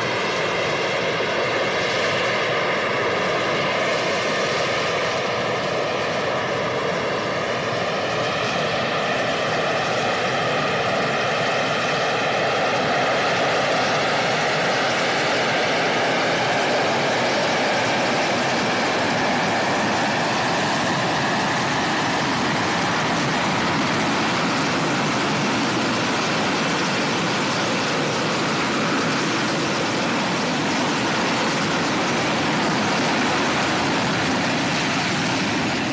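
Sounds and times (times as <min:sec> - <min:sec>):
jet engine roar: 0:00.0 - 0:35.9.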